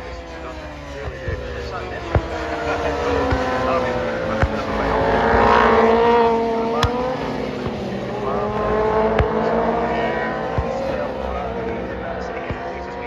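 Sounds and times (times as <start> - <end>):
superbike engines passing: 0.0 - 13.0.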